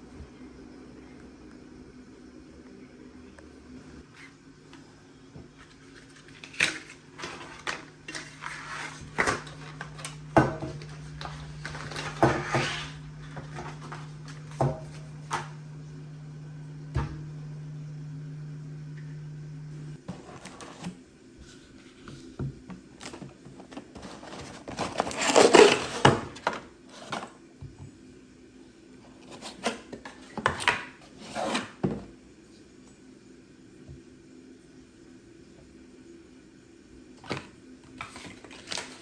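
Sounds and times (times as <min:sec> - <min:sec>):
low appliance hum: 0:00.0 - 0:39.0.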